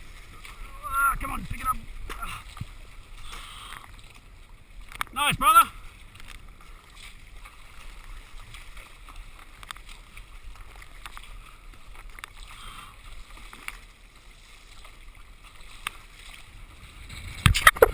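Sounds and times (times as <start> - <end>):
sea water sloshing and splashing: 0.0 - 17.9.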